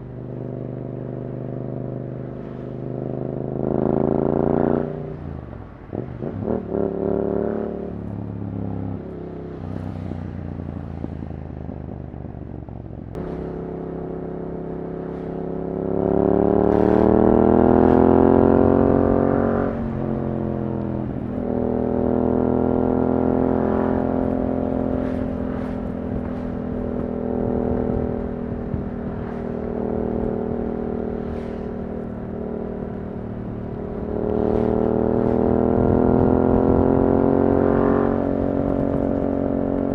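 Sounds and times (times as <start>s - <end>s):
motorcycle exhaust under acceleration: 0.0s - 39.9s.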